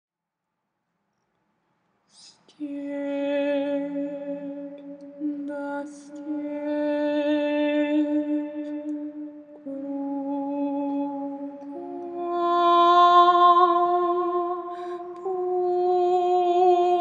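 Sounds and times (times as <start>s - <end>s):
woman singing unaccompanied: 2.2s - 17.0s.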